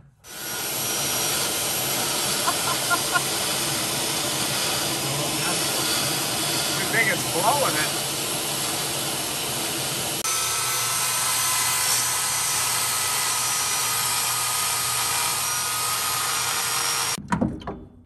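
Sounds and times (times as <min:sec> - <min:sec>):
die grinder cutting steel: 0:00.2 - 0:17.2.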